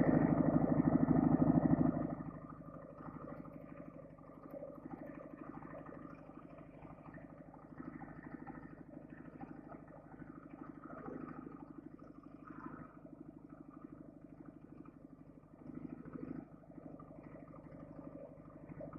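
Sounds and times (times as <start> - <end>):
motorcycle engine running at low revs: 0.0 - 18.9.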